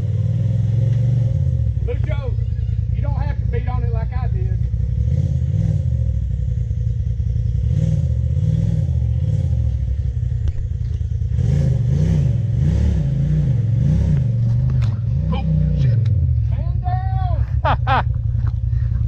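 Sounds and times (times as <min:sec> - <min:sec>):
engine revving in throttle blips: 0:00.0 - 0:16.5.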